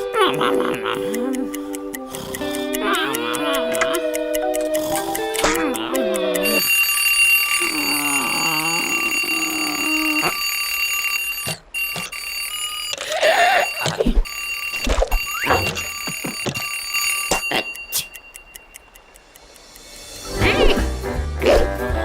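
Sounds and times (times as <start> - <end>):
cartoon alarm clock ringing: 0.4 - 19.6.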